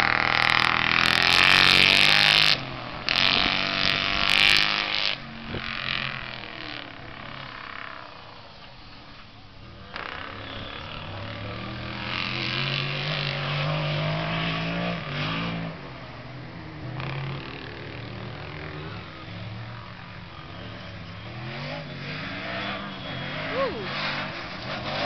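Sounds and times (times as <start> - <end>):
race vehicle engines at high revs: 0.0 - 25.0.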